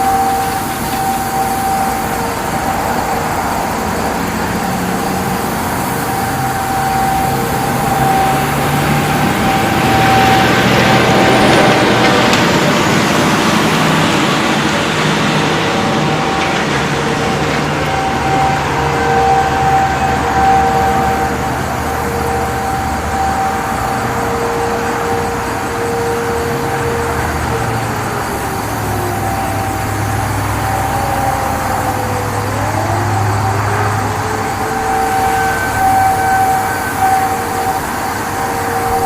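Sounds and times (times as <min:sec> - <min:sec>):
dual-tone warning siren: 0:00.0 - 0:39.0
road traffic noise: 0:00.0 - 0:39.0.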